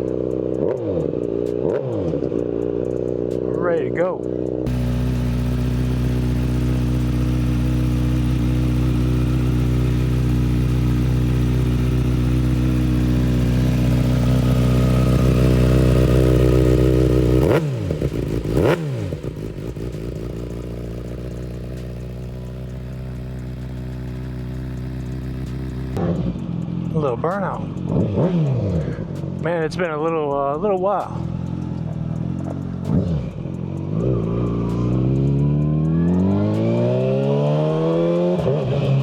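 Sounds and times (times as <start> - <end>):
motorcycle engine idling: 0.0 - 36.3
motorcycle engine revving: 0.0 - 39.0.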